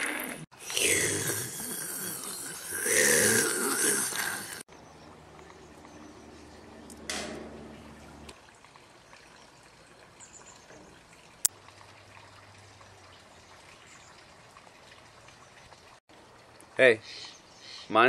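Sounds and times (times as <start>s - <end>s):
faint outdoor hiss: 0.5s - 18.0s.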